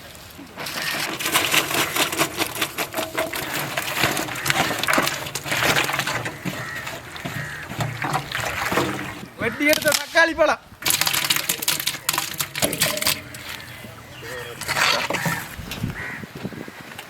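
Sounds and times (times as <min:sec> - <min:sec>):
onions crackling and rustling: 0:00.0 - 0:16.2.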